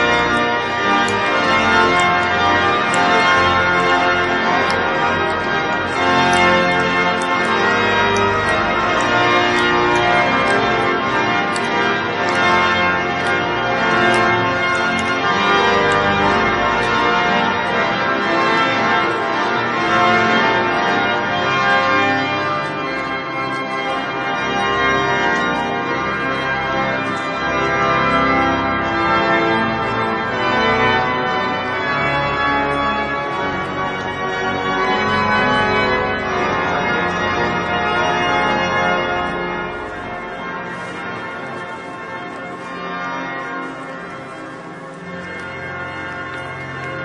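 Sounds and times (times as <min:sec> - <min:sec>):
church bells ringing: 0:00.0 - 0:47.0
pipe organ playing: 0:00.0 - 0:47.0.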